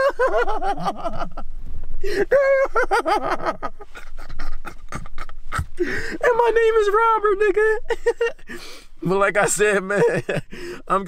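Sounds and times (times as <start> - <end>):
man laughing: 0.0 - 6.8, 7.5 - 8.6, 9.4 - 11.0.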